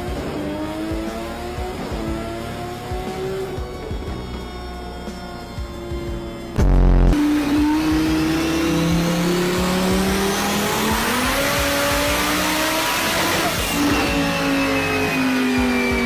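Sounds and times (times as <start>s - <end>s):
car engine at full throttle: 0.0s - 16.0s
roller and exhaust rush: 0.0s - 16.0s.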